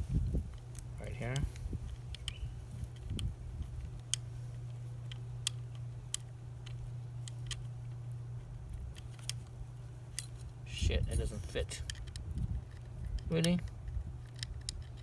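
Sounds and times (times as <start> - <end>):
steady low hum: 0.0 - 15.0
small bolts ticking and clicking: 0.5 - 15.0.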